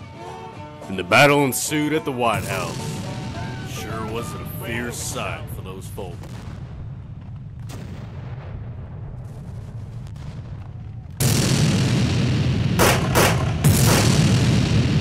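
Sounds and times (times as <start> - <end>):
sharp blasts: 2.3 - 10.5, 11.2 - 15.0
faint cannon shot: 2.4 - 15.0
loud explosion roaring: 2.4 - 15.0
low rumble: 2.4 - 15.0.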